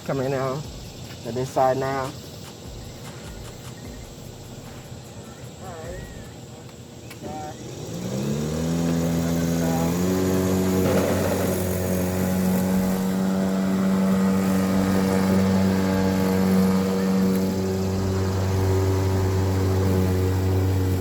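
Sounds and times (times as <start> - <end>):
electric lawn mower humming: 0.0 - 21.0.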